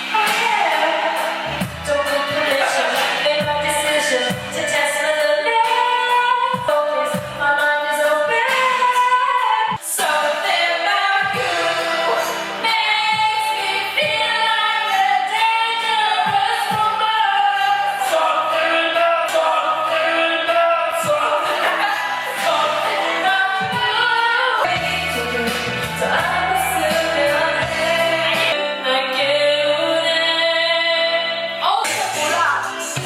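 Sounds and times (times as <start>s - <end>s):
karaoke backing track: 0.0s - 33.0s
people singing pop song: 0.0s - 33.0s.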